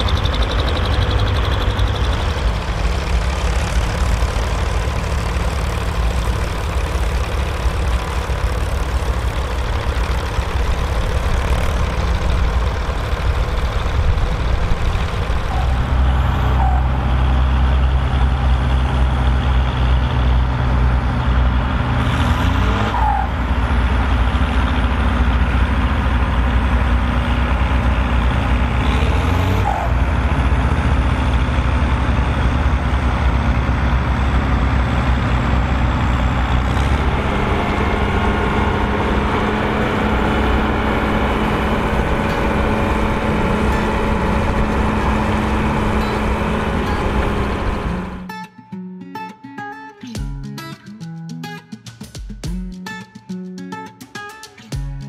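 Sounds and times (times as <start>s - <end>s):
tractor diesel engines running: 0.0s - 48.3s.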